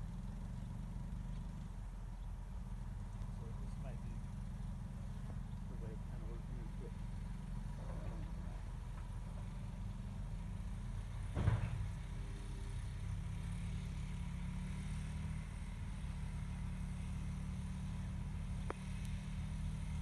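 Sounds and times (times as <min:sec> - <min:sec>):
distant dirt bike engine rumble: 0:00.0 - 0:20.0.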